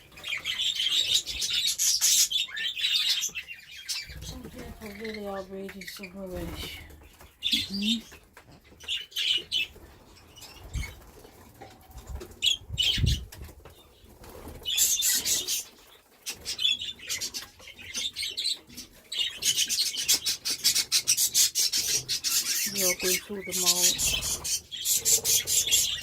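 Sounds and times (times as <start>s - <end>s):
budgies chirping: 0.0s - 26.0s
budgies flapping wings: 4.0s - 8.2s, 8.8s - 18.1s, 18.7s - 26.0s.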